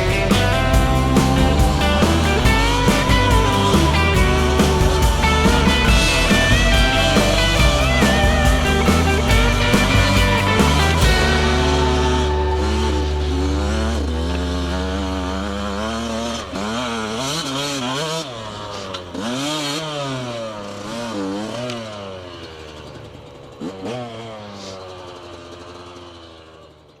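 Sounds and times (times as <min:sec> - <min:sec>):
two-stroke engine revving: 0:00.0 - 0:27.0.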